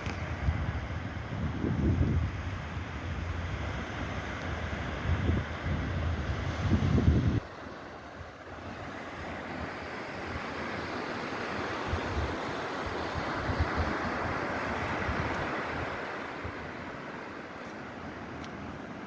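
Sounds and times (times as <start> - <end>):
wind buffeting microphone: 0.0 - 18.8
surf washing onto beach: 0.0 - 19.0.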